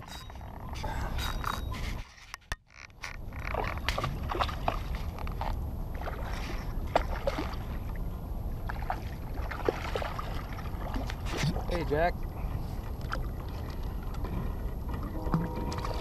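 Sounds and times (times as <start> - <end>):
water sloshing against kayak hull: 0.0 - 16.0
small water plinks and splashes: 2.6 - 16.0
wind rumble on microphone: 3.0 - 16.0.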